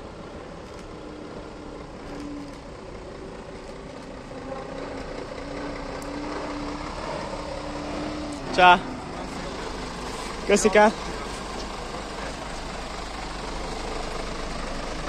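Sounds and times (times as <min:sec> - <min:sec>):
truck diesel engine at low revs: 0:00.0 - 0:15.0.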